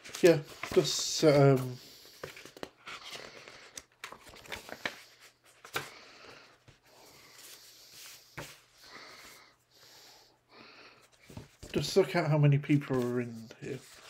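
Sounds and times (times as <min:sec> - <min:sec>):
book pages rustling: 0:00.0 - 0:08.8, 0:11.1 - 0:14.0.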